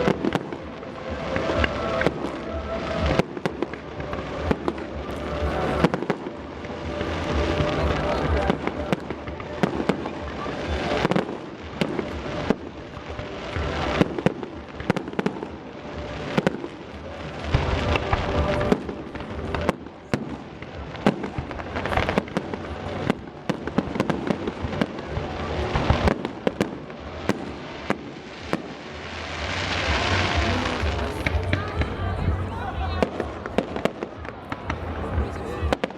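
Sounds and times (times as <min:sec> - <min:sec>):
fireworks bursting and banging: 0:00.0 - 0:35.9
fireworks crackling: 0:00.0 - 0:35.9.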